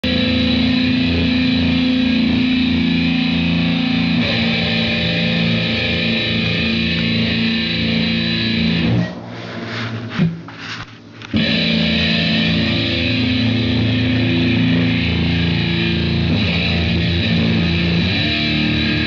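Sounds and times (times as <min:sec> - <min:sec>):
distorted electric guitar chords: 0:00.0 - 0:10.5, 0:11.2 - 0:19.0.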